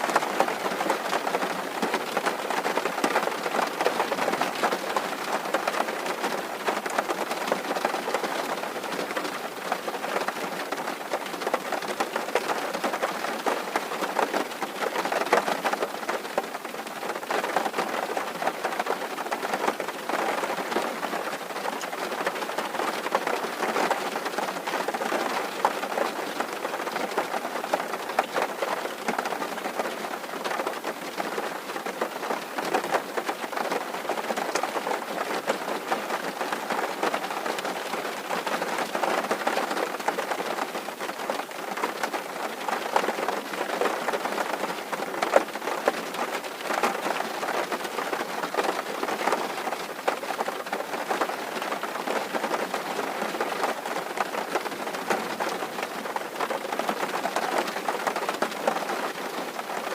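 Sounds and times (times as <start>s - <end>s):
rain drumming on a tin roof: 0.0s - 59.9s.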